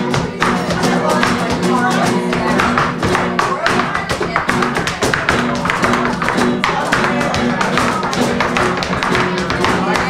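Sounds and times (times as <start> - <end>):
acoustic flamenco guitars: 0.0 - 10.0
sharp percussive taps: 0.0 - 10.0.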